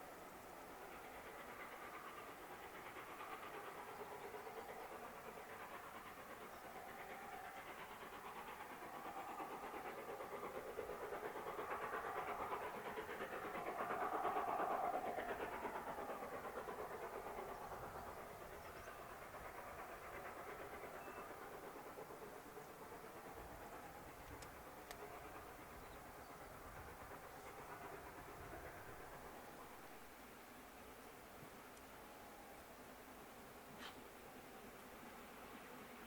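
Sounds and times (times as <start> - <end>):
steam train passing: 0.0 - 36.0.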